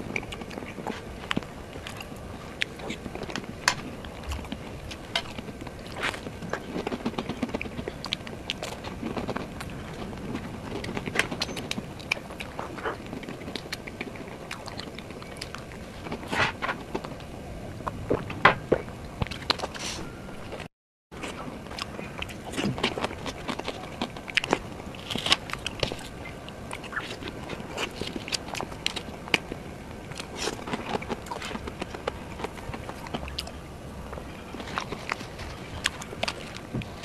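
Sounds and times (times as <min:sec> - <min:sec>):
person chewing: 0:00.0 - 0:37.0.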